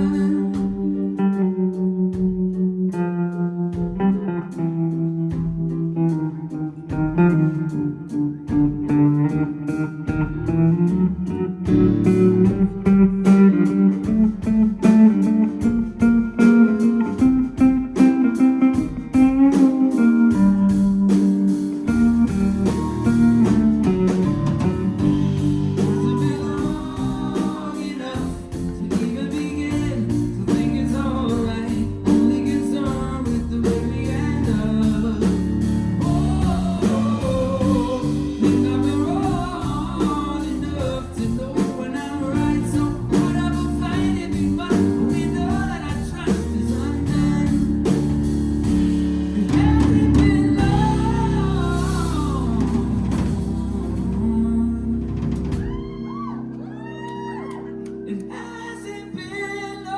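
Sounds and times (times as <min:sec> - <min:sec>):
person singing: 0:00.0 - 0:48.4, 0:49.4 - 0:59.9
steady bass line: 0:00.0 - 0:58.2
guitar: 0:00.0 - 0:59.9.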